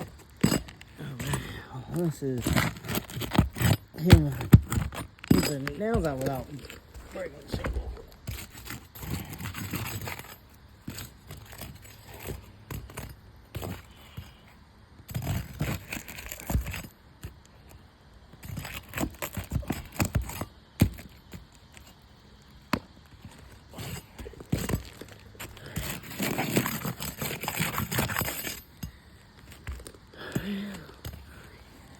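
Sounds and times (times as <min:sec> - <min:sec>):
metal tool scraping under shingles: 0:00.0 - 0:14.4, 0:15.1 - 0:17.8, 0:18.4 - 0:31.9.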